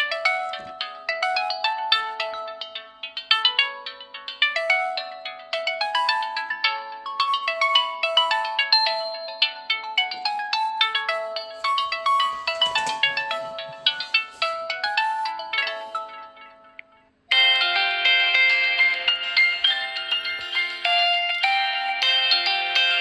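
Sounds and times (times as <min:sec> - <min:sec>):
phone ringtone melody: 0:00.0 - 0:23.0.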